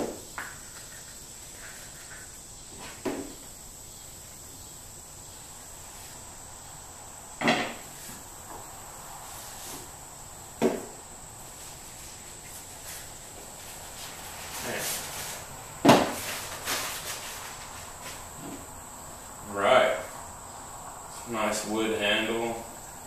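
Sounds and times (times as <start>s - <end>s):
faint high-pitched whine: 0.0s - 23.0s.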